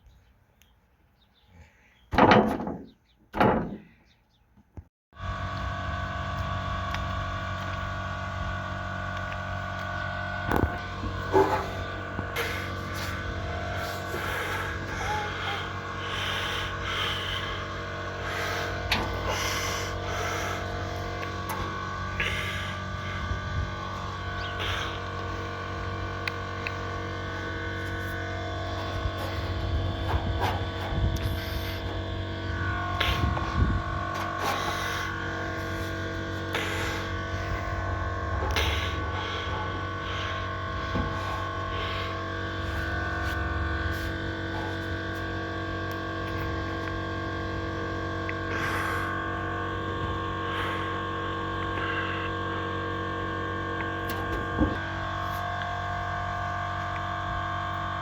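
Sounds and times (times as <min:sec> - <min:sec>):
steady machine hum: 0:05.2 - 0:58.0.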